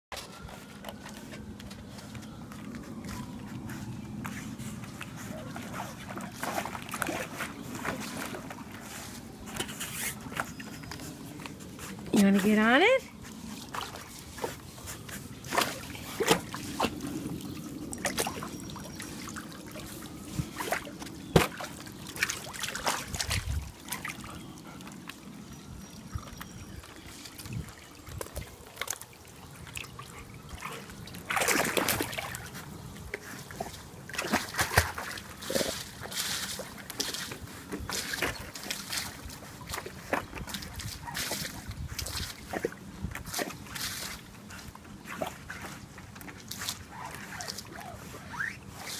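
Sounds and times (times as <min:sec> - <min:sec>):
pool water splashing: 0:00.2 - 0:48.9.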